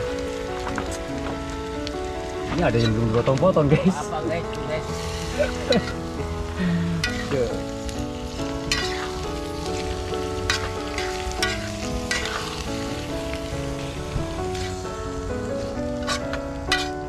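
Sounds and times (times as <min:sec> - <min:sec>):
melody of held notes: 0:00.0 - 0:17.0
squid sizzling in a pan: 0:00.0 - 0:17.0.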